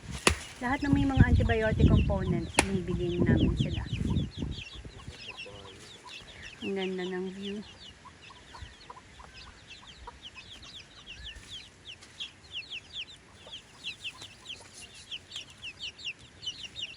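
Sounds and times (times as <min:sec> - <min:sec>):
chicks peeping: 0:00.0 - 0:16.9.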